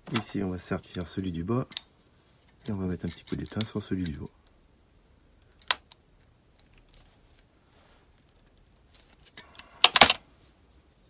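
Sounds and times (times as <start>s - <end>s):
faint handling noise: 0.0s - 4.6s, 5.4s - 11.0s.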